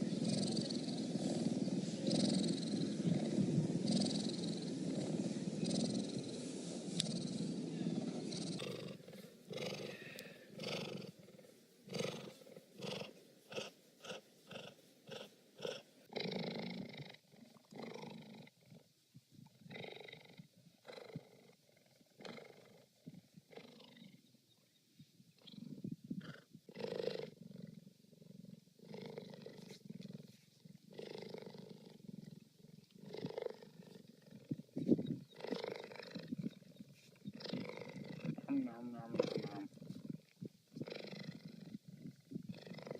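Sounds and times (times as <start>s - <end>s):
cheetah purring: 0.0s - 24.4s, 25.0s - 42.9s.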